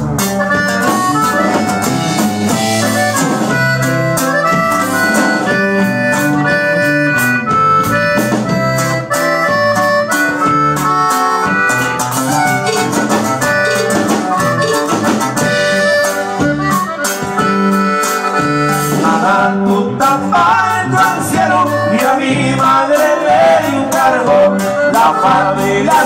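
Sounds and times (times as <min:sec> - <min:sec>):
latin band music with accordion: 0:00.0 - 0:26.0.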